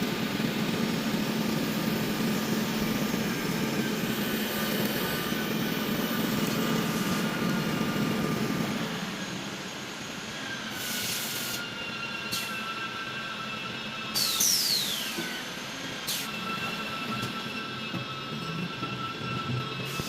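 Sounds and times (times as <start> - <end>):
welding machine high whine: 0.0 - 20.0.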